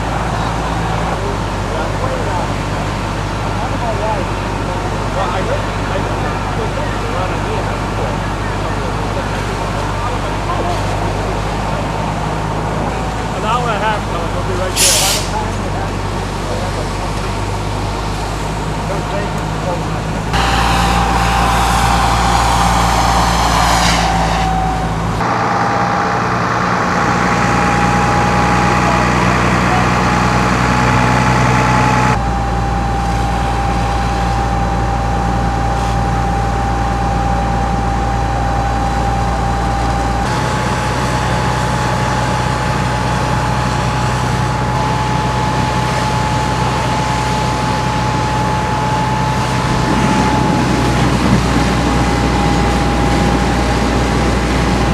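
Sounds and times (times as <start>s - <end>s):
fire engine engines running: 0.0s - 54.9s.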